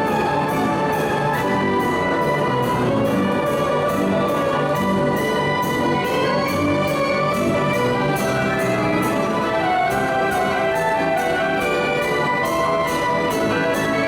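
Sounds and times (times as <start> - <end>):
band organ playing a march: 0.0 - 14.0.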